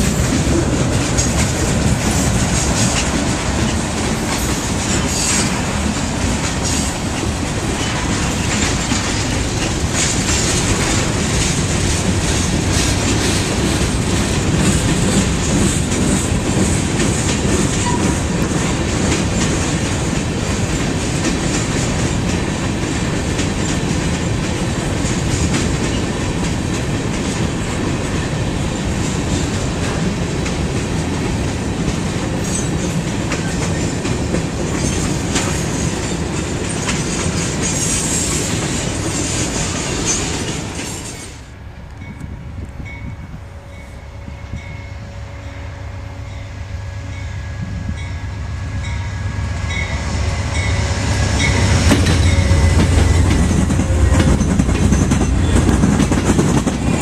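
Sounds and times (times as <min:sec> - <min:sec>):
clickety-clack over rail joints: 0:00.0 - 0:43.0, 0:49.7 - 0:57.0
freight train wheels rumbling on rails: 0:00.0 - 0:57.0.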